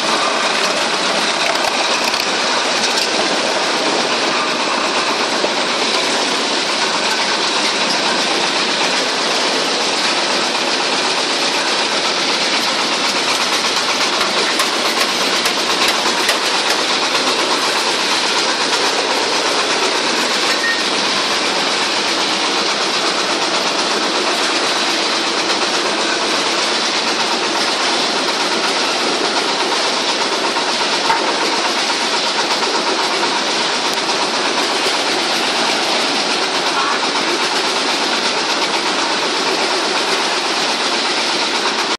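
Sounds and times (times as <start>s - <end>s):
wood chipper running: 0.0s - 41.9s.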